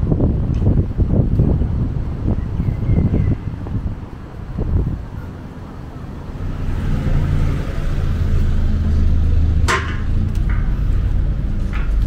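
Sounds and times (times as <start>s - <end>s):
engine running low hum: 0.0s - 12.0s
street traffic: 0.0s - 12.0s.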